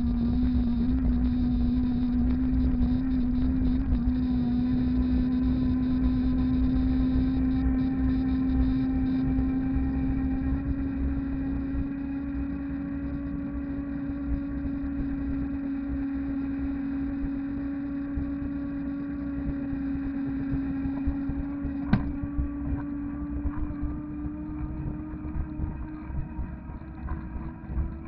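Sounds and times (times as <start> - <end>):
electric motor hum: 0.0 - 28.0.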